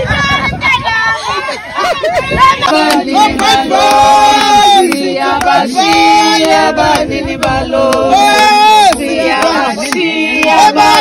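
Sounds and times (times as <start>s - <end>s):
group singing long notes: 1.8s - 11.0s.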